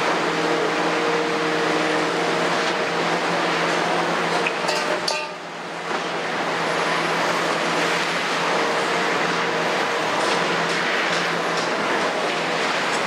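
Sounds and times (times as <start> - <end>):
excavator engine and hydraulics: 0.0 - 13.0.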